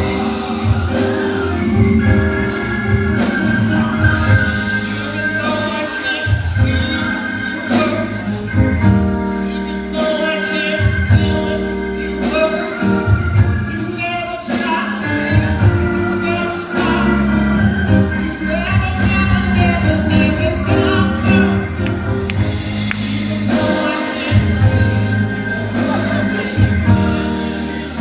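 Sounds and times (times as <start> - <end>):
gospel singing: 0.0 - 28.0
instrumental accompaniment with bass: 0.0 - 28.0.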